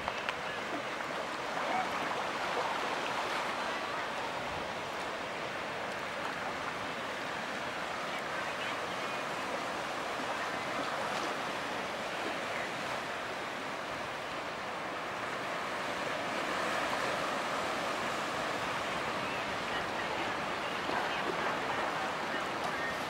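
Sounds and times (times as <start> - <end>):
water rushing and splashing: 0.0 - 23.0.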